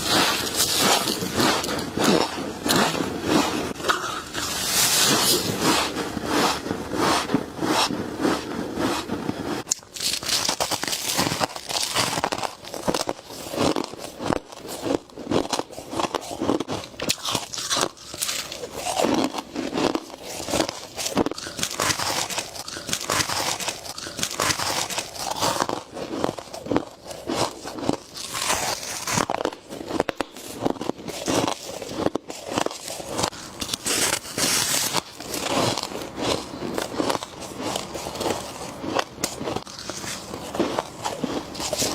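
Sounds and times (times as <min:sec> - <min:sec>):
crunching of frost being chewed: 0:00.0 - 0:41.9.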